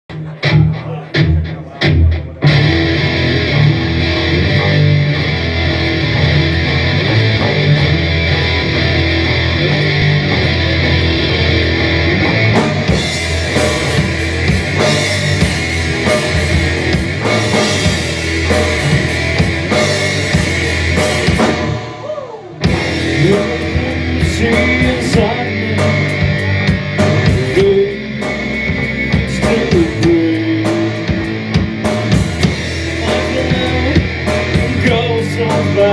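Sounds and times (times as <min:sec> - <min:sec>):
live heavy rock band: 0:00.1 - 0:35.9.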